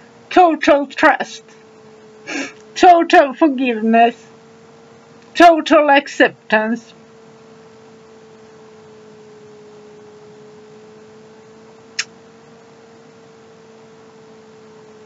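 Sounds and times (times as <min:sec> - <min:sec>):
steady humming tone: 0:00.0 - 0:15.0.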